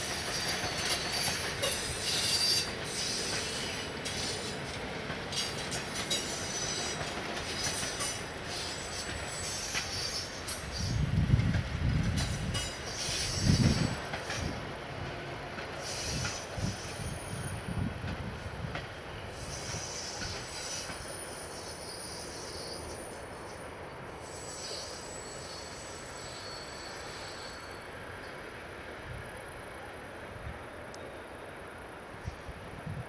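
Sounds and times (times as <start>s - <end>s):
train coaches rumbling on rails: 0.0s - 33.0s.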